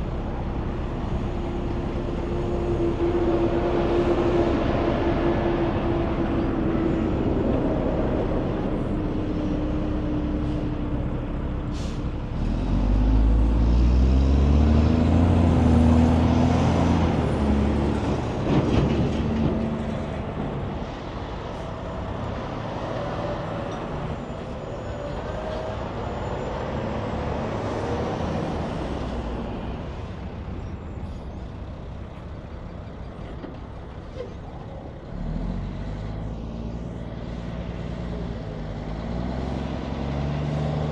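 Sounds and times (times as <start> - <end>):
diesel truck passing: 0.0 - 40.9
tyre and road noise: 0.0 - 40.9.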